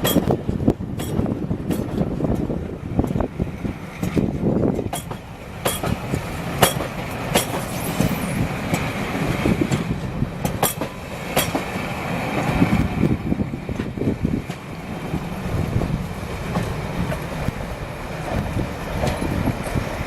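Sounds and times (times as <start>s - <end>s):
train rumble: 0.0s - 20.0s
train wheels clacking: 0.0s - 20.0s.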